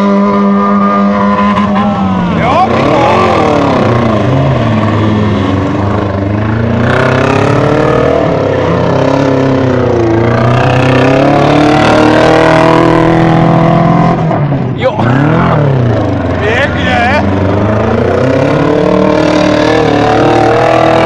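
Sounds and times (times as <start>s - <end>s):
race car engines revving: 0.0s - 21.0s.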